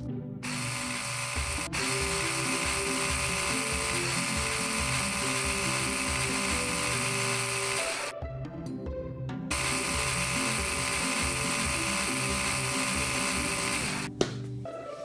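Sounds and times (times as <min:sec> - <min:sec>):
background music: 0:00.0 - 0:15.0
toy drill buzzing whir: 0:00.4 - 0:08.1, 0:09.5 - 0:14.1.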